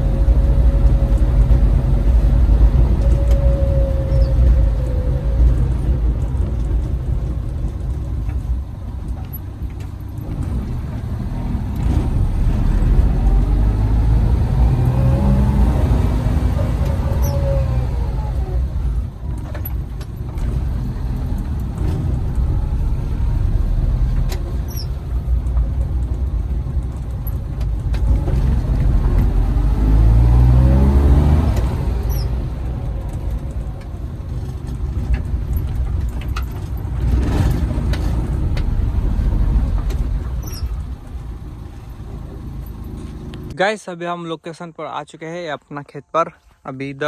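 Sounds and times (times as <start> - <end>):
van engine and road noise: 0.0 - 47.0.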